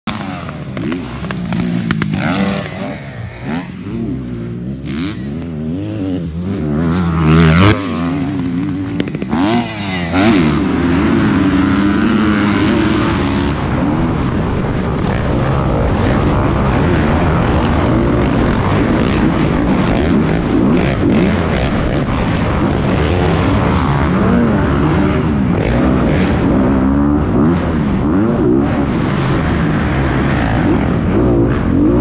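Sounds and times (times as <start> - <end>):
drone of racing dirt bikes: 0.0 - 32.0
dirt bike engine revving: 0.1 - 32.0.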